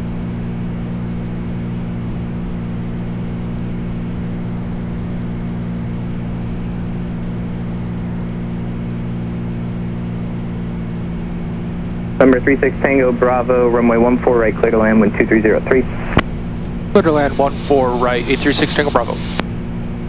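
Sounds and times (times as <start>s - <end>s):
airplane engine drone in cabin: 0.0s - 20.0s.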